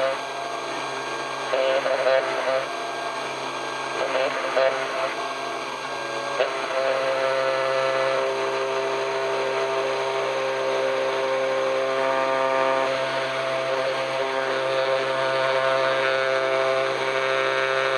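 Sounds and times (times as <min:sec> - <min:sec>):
bit cutting circuit board: 0:00.0 - 0:17.9
milling spindle running: 0:00.0 - 0:17.9.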